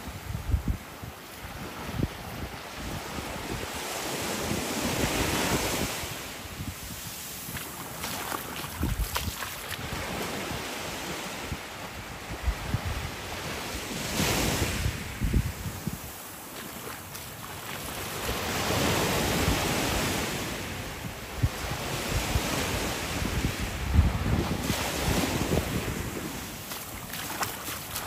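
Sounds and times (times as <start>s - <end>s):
small waves lapping on shore: 0.0s - 28.0s
wind rumble on microphone: 0.0s - 28.0s.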